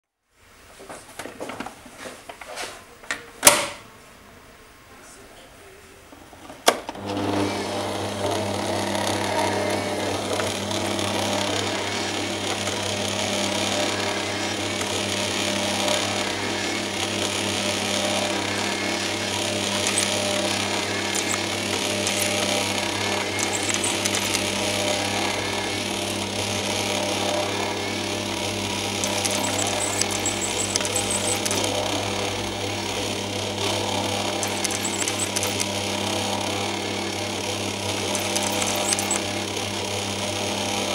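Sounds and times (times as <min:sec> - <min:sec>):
stand mixer motor hum: 0:07.0 - 0:40.9.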